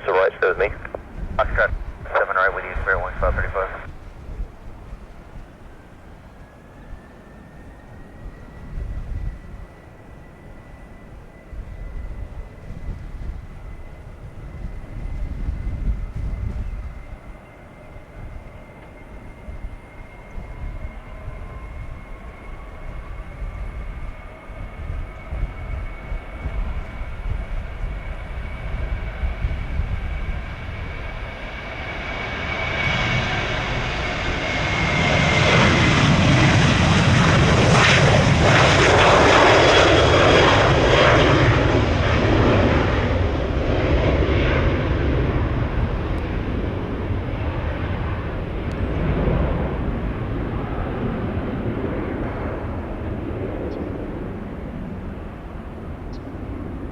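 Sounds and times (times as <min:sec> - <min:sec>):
jet airliner passing: 0:00.0 - 0:56.9
wind rumble on microphone: 0:00.1 - 0:56.9.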